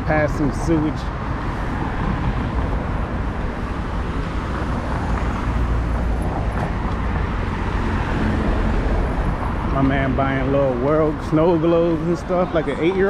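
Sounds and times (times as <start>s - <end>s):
busy beachfront ambience: 0.0s - 13.0s.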